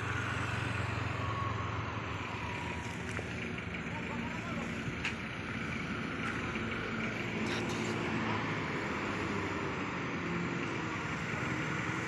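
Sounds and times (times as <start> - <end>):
truck and motorcycle engines: 0.0 - 12.0.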